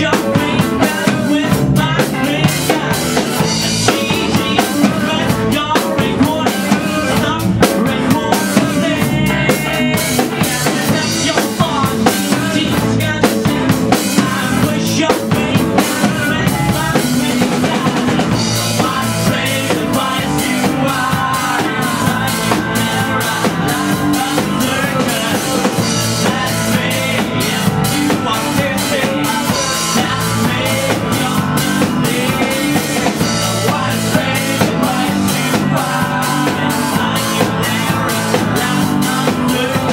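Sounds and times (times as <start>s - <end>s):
drum kit beat: 0.0s - 39.9s
electric guitar: 0.0s - 39.9s
man singing: 0.0s - 39.9s.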